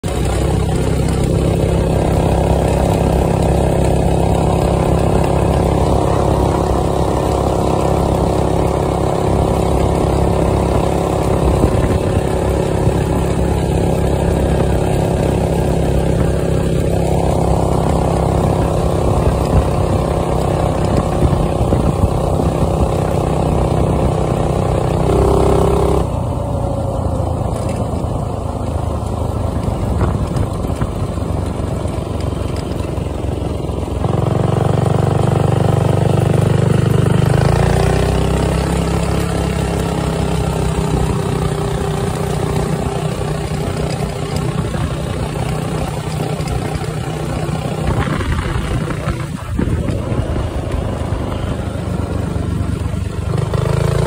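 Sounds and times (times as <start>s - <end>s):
go-kart engine running: 0.0s - 54.0s
tyres on gravel: 0.0s - 54.0s.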